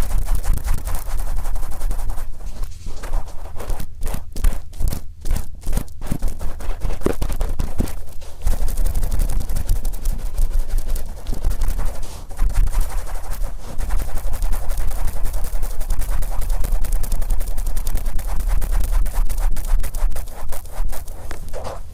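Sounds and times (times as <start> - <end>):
swab rubbing on microphone: 0.0 - 3.8, 6.1 - 21.9.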